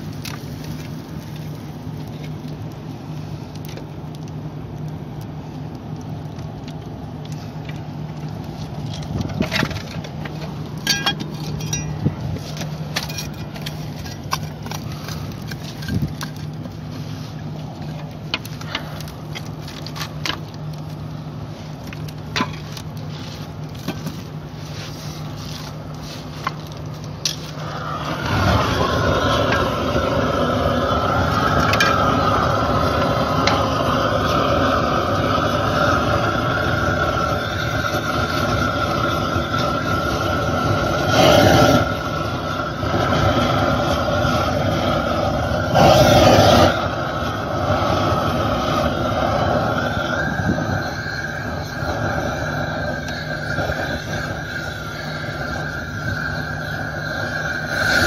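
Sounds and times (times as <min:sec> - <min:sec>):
gas burner roaring: 0:00.0 - 0:58.0.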